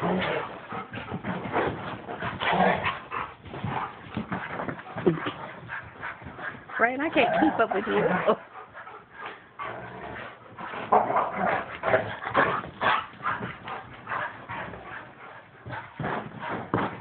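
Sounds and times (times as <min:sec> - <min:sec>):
dogs vocalizing: 0:00.0 - 0:16.7
dogs scuffling: 0:00.0 - 0:17.0.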